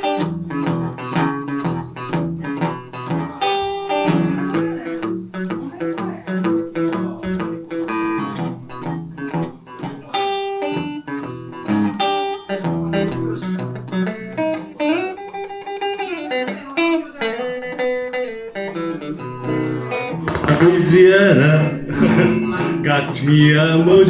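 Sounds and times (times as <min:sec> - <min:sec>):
blues electric guitar: 0:00.0 - 0:24.0.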